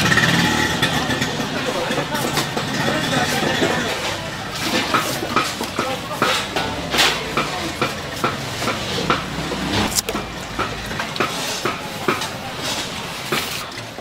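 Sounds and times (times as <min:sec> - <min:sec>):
low rumble of passing traffic: 0:00.0 - 0:13.4.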